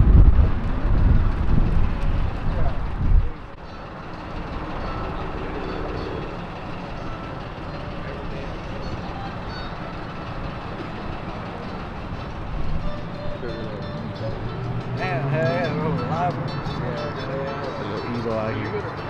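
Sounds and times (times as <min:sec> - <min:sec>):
faint steady tones: 0:00.0 - 0:19.0
vehicle engines running: 0:00.0 - 0:19.0.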